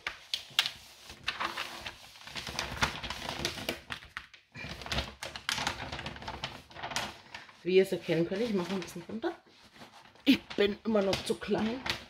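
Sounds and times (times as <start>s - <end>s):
plastic sheet rustling and crinkling: 0.0s - 12.0s.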